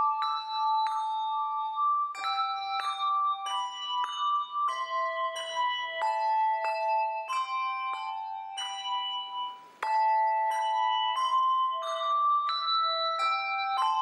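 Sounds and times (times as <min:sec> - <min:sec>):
handbells playing a melody: 0:00.0 - 0:14.0.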